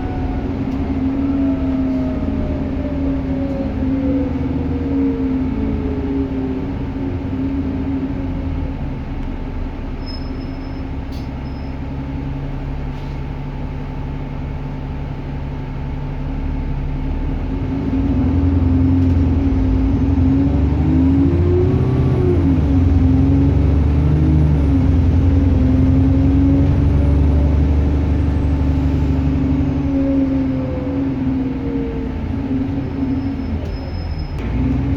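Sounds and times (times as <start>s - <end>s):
turbocharger whine: 0.0s - 10.8s, 16.4s - 34.9s
diesel bus engine droning: 0.0s - 34.9s.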